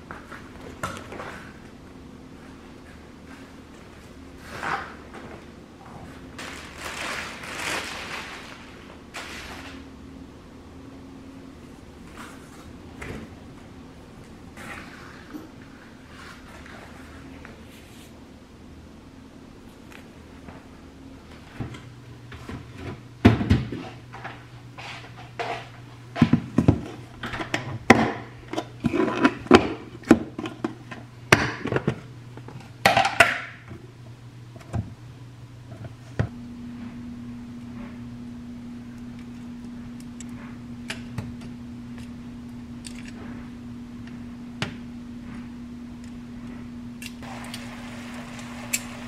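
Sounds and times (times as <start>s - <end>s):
electric cooktop humming: 0.0s - 49.0s.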